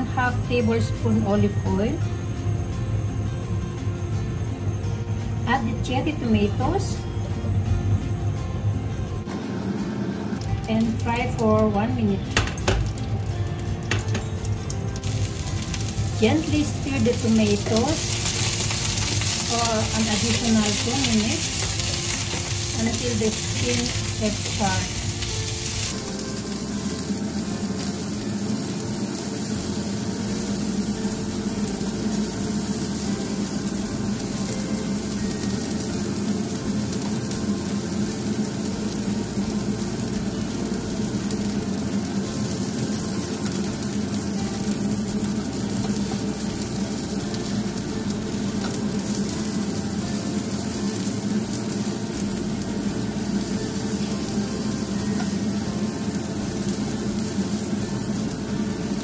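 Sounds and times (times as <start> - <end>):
tomatoes sizzling in oil: 0.0 - 8.1, 9.2 - 59.0.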